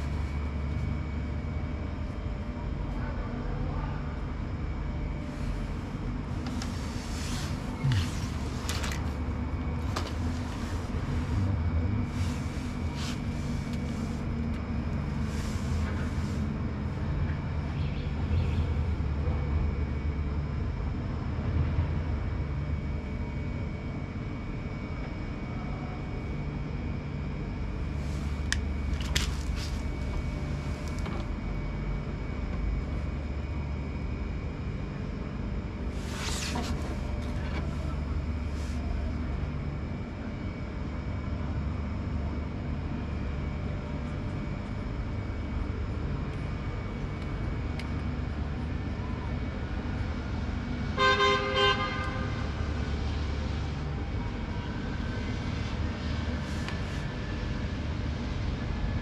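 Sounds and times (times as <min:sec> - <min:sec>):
machine humming with high whine: 0:00.0 - 0:59.0.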